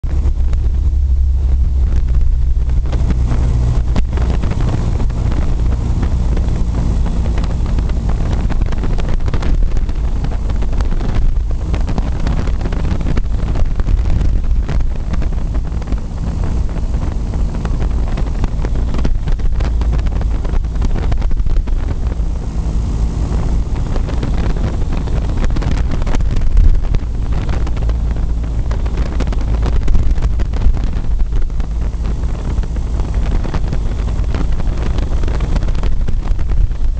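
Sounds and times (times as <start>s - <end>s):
aircraft engine drone: 0.0s - 36.9s
wind noise on microphone: 0.0s - 36.9s.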